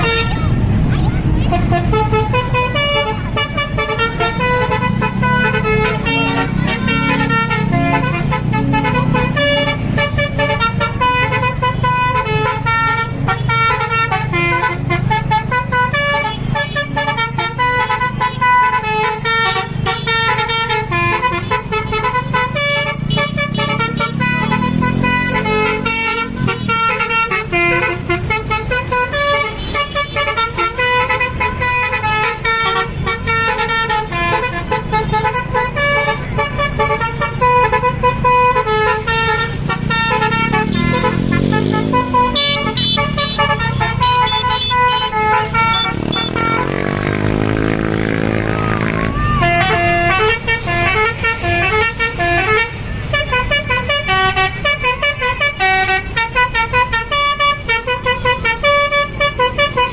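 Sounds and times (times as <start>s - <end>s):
musical bus horn tune: 0.0s - 0.7s, 1.3s - 59.9s
engines rumbling: 0.0s - 59.9s.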